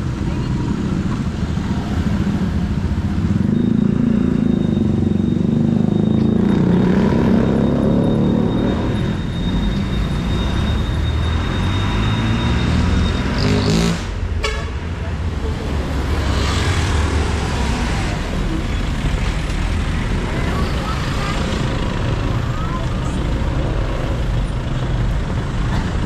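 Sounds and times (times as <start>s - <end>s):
street traffic rumbling: 0.0s - 26.0s.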